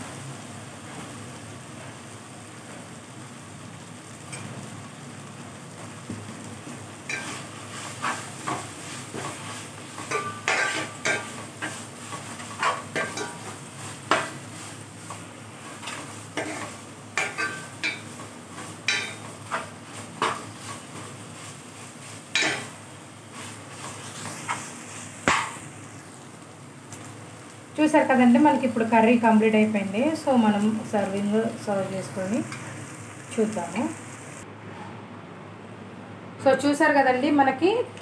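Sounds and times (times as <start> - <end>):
leaves sizzling in oil: 0.0 - 34.4.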